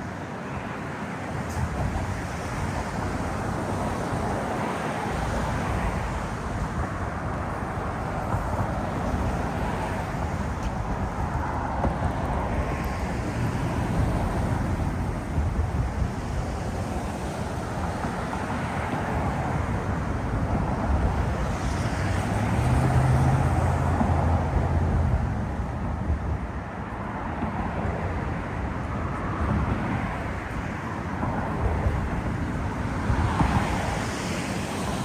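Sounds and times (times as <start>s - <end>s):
city traffic rumble: 0.0s - 35.0s
wind noise on microphone: 0.6s - 35.0s.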